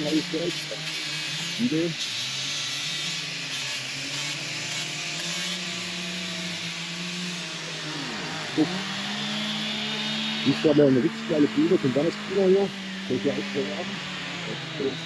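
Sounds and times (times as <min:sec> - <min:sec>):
chainsaw engine buzzing: 0:00.0 - 0:15.0.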